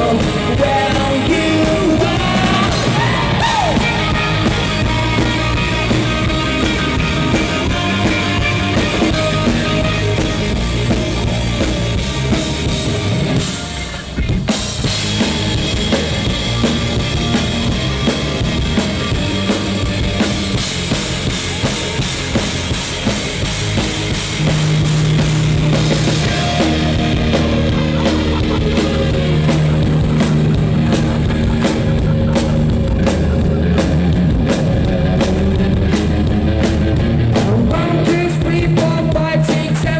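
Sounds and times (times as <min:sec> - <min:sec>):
bass guitar: 0:00.0 - 0:39.9
drum kit: 0:00.0 - 0:39.9
rock band playing: 0:00.0 - 0:39.9.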